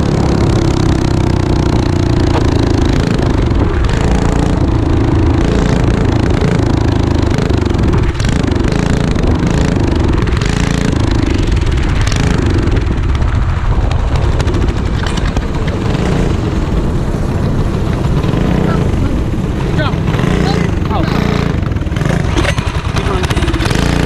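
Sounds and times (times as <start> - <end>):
go-kart engine racing: 0.0 - 24.0.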